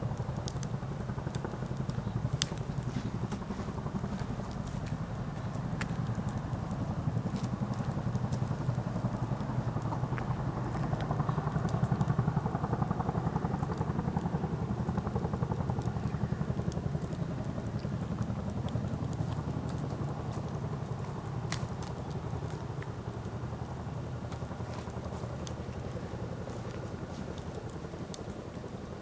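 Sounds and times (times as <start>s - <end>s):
low pulsing rumble: 0.0s - 28.3s
campfire crackling and popping: 0.0s - 29.0s.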